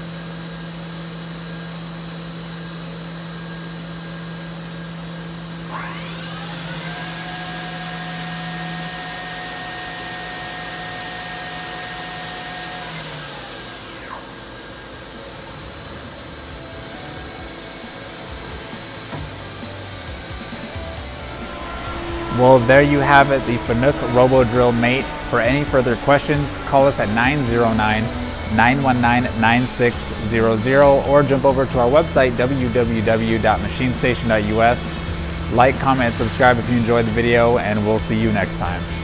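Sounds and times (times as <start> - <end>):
machine low hum: 0.0 - 39.0
spindle whine and hiss: 0.0 - 39.0.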